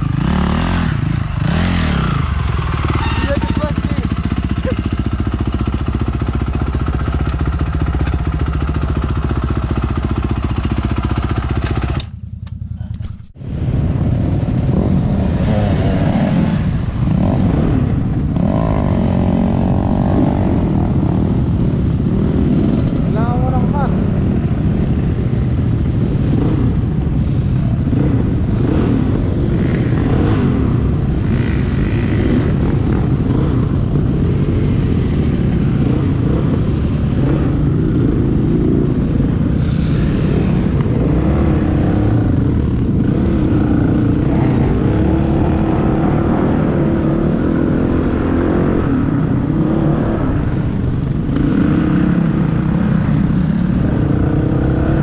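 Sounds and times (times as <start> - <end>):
motorbike engines running: 0.0 - 55.0.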